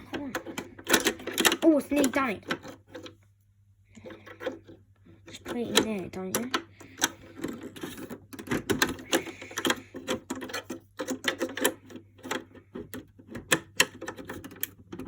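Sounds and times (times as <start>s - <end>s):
plastic toy clicking and rattling: 0.0s - 3.2s, 4.0s - 15.0s.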